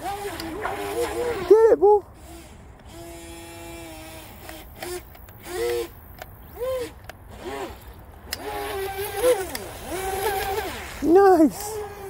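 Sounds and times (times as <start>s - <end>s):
electric motor whining: 0.0s - 1.6s, 2.2s - 12.0s.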